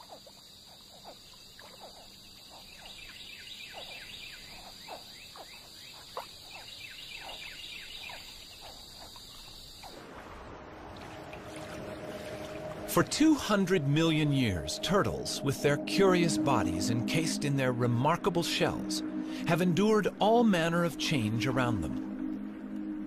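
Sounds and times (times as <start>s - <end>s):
high insect drone: 0.0s - 10.0s, 12.2s - 23.0s
frogs chirping: 0.0s - 10.3s, 11.6s - 23.0s.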